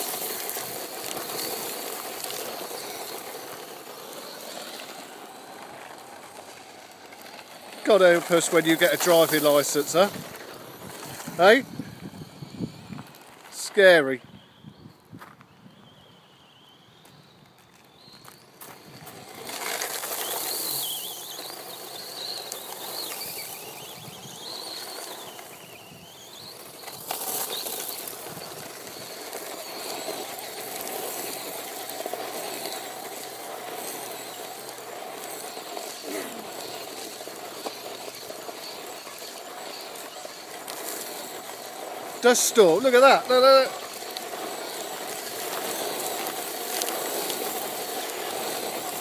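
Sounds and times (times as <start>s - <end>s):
electric toy car motor whine: 0.0s - 49.0s
tyres crunching gravel: 0.0s - 49.0s.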